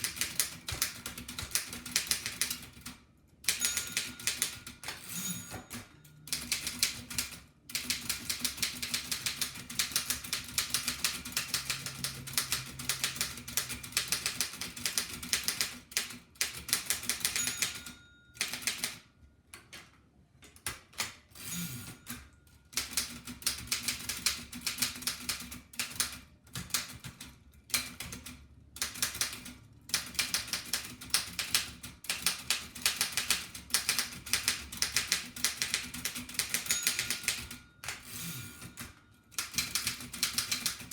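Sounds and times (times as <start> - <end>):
typewriter clacking: 0.0 - 19.0, 22.8 - 40.9.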